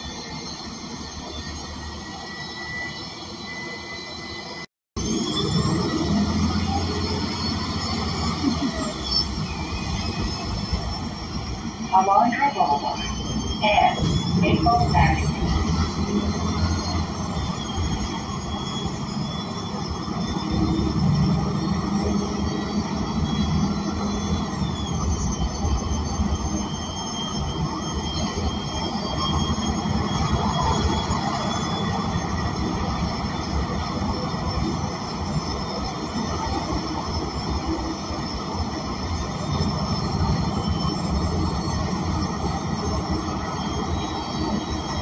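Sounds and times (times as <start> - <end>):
bus engine drone: 0.0 - 45.0.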